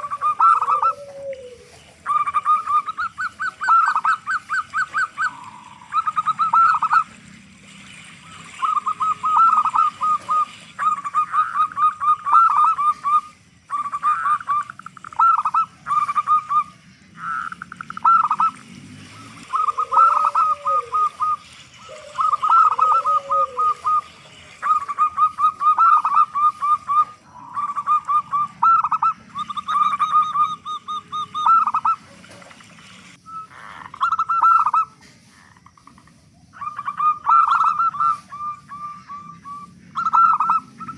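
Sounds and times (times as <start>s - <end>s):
dove cooing song: 0.0s - 40.9s.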